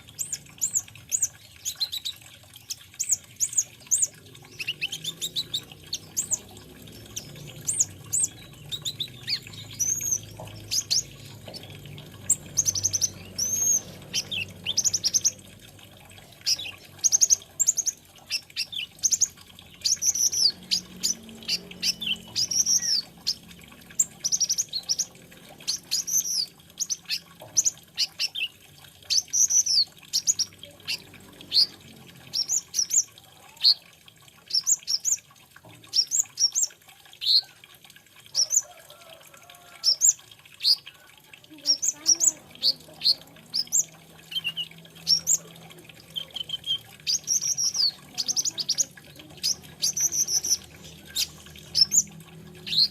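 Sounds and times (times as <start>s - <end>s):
bird chirping song: 0.0s - 35.2s, 39.8s - 52.9s.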